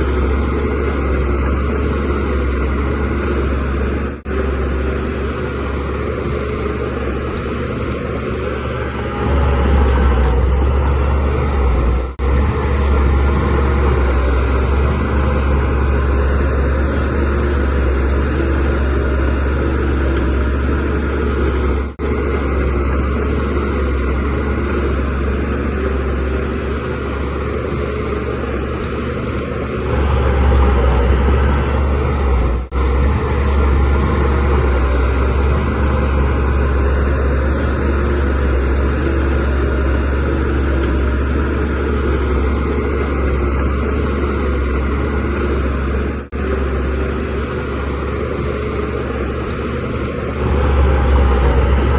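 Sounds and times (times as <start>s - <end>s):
bulldozer diesel engine under load: 0.0s - 51.9s.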